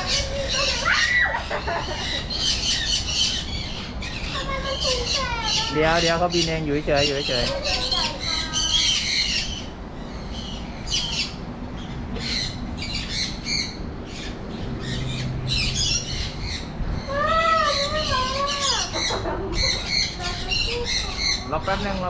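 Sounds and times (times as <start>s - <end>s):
birds squawking: 0.0s - 22.0s.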